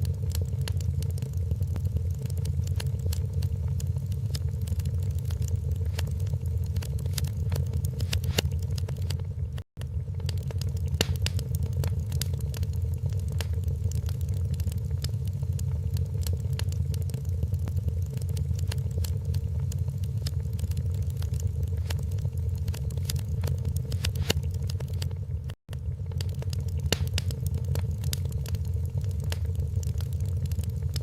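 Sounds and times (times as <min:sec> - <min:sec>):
low fire rumble: 0:00.0 - 0:31.0
wood fire crackling: 0:00.0 - 0:31.0.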